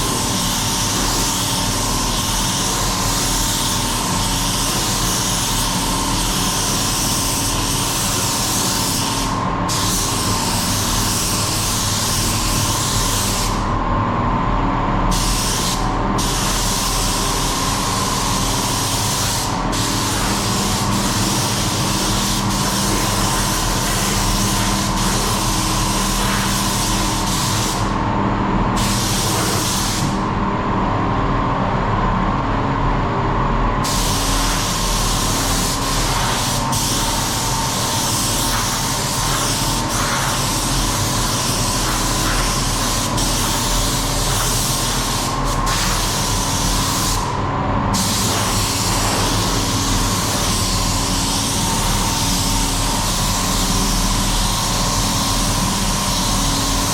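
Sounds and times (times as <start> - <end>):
steady mechanical hum: 0.0 - 56.9
paint spray gun hissing: 0.2 - 13.6, 15.1 - 27.9, 28.8 - 30.1, 33.8 - 47.3, 48.0 - 56.9.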